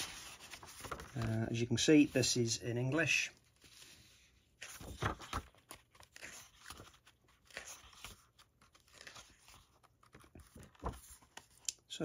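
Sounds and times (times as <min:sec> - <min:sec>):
paper pages rustling: 0:00.0 - 0:11.7.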